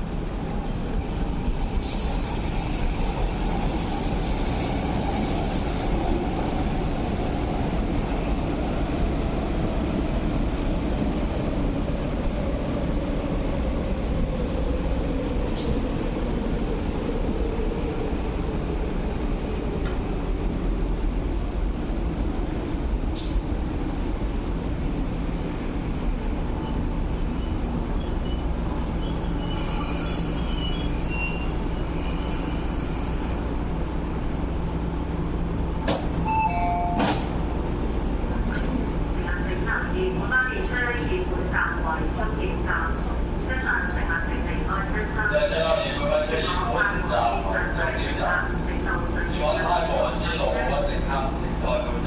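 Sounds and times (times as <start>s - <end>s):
electric trains rumbling and humming: 0.0s - 52.0s.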